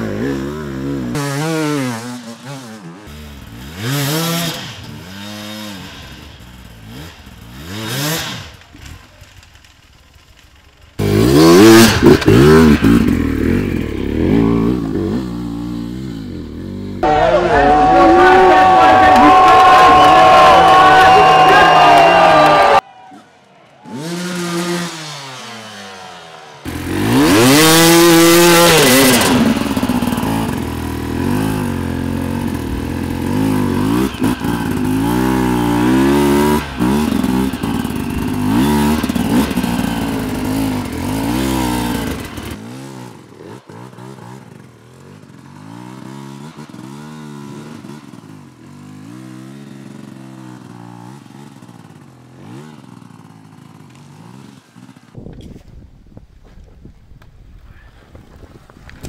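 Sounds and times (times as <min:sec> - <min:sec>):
dirt bike engine revving: 0:00.0 - 0:09.0, 0:10.7 - 0:55.2.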